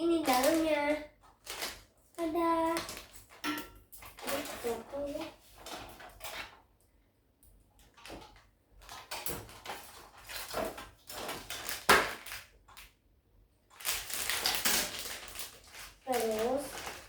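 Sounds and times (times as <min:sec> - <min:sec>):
plastic parts rustling and clicking: 0:00.2 - 0:01.9, 0:02.6 - 0:06.6, 0:07.8 - 0:12.9, 0:13.7 - 0:17.0.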